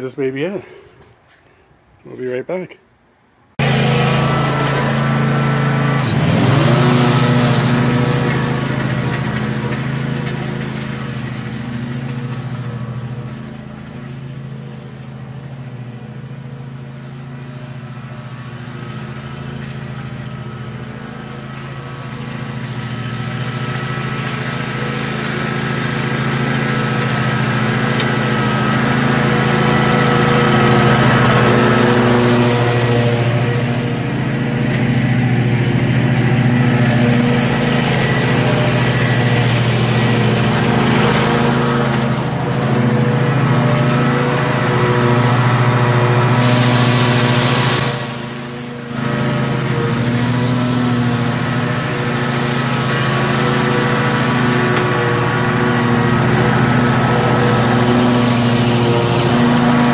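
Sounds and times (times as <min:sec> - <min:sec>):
mower cutting grass: 0:03.5 - 0:59.9.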